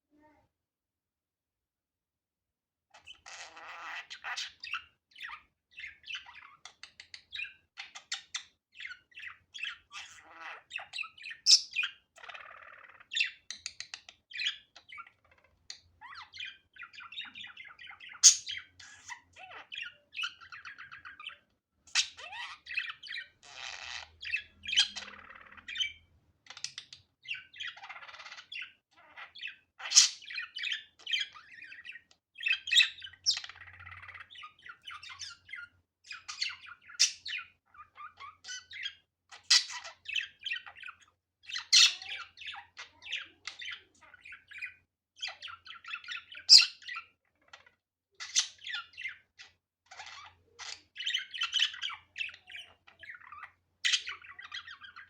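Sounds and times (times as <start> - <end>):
budgerigar chirping and twittering: 2.9 - 55.0.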